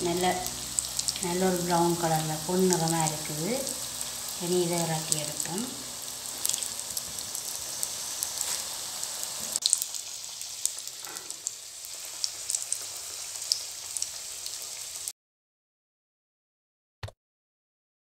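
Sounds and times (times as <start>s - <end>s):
cutlets sizzling in hot oil: 0.0s - 15.1s.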